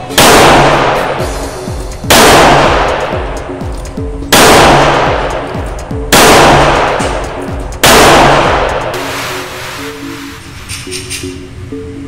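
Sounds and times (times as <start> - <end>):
revolver shots reverberating indoors: 0.0 - 9.8.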